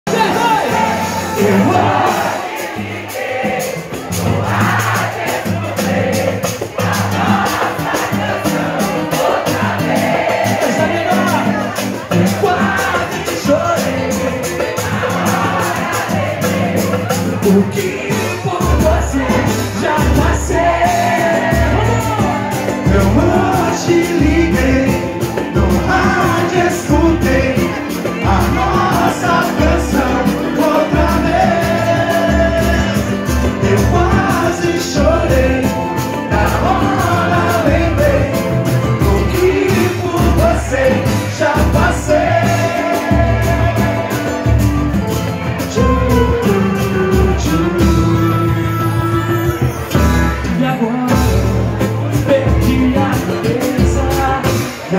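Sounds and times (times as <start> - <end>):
live band playing: 0.0 - 54.9
person singing: 0.1 - 5.0, 5.6 - 54.9.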